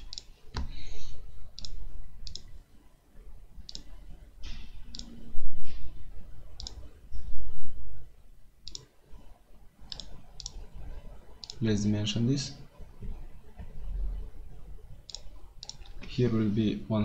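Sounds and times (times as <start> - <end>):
low rumbling noise: 1.0 - 17.0.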